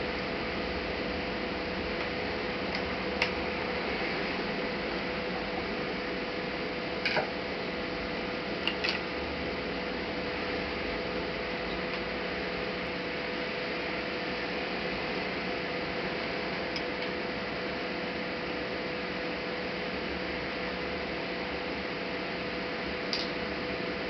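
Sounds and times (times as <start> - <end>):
constant hum tone: 0.0 - 24.0.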